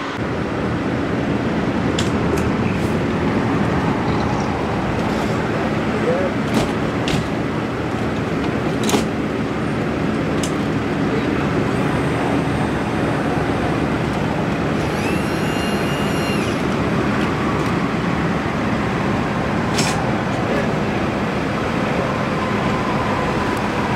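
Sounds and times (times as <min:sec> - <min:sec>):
freeway traffic: 0:00.0 - 0:23.9
idling emergency vehicles: 0:00.0 - 0:23.9.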